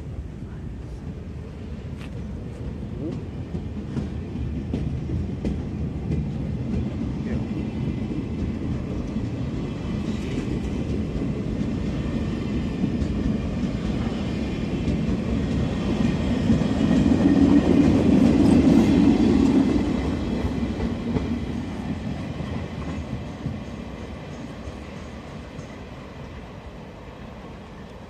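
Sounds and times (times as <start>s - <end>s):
freight train rumbling past: 0.0s - 28.0s
train wheel clatter: 1.9s - 26.0s.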